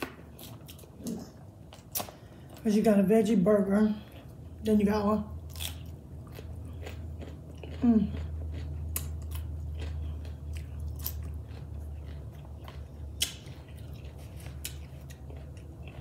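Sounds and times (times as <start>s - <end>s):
person chewing crunchy food: 0.0s - 2.6s, 5.4s - 16.0s
steady low hum: 0.0s - 16.0s.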